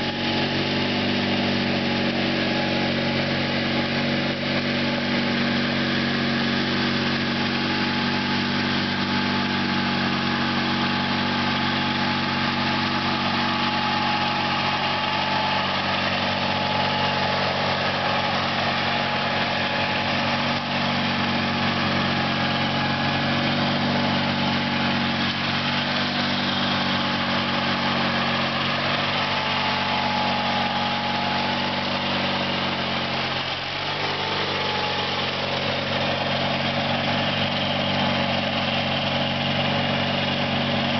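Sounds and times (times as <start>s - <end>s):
tractor engine mowing grass: 0.0s - 40.9s.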